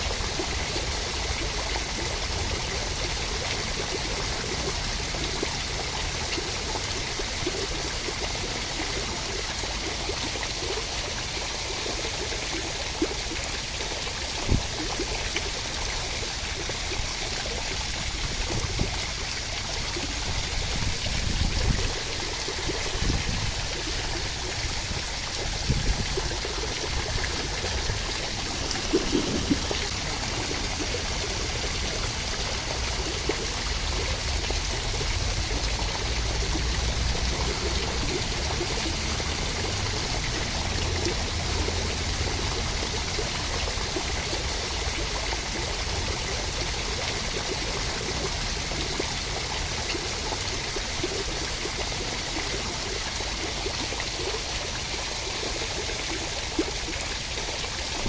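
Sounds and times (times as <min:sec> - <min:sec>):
rushing water: 0:00.0 - 0:58.0
water splashes: 0:00.0 - 0:58.0.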